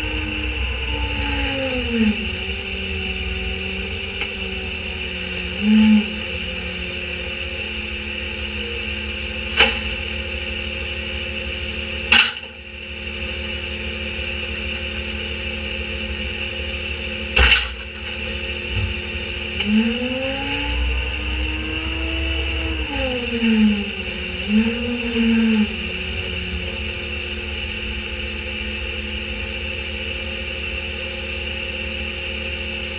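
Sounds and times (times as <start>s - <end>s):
diesel engine idling: 0.0s - 32.9s
engine revving with hydraulic whine: 0.0s - 32.9s.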